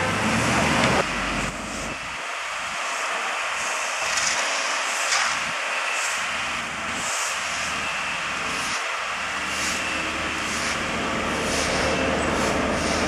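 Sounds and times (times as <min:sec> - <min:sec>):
low engine drone: 0:00.0 - 0:13.0
traffic hiss: 0:00.0 - 0:13.0.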